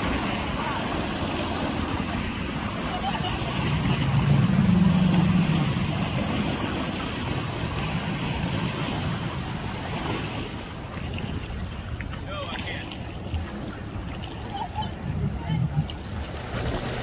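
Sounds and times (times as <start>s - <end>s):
wind on microphone: 0.0s - 12.1s, 14.4s - 17.0s
choppy water: 0.0s - 17.0s
jet ski engine running: 0.0s - 17.0s.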